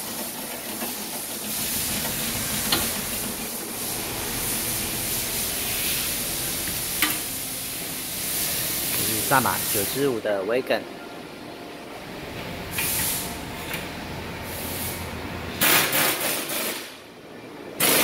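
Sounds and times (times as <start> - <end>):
workshop hiss: 0.0 - 18.0.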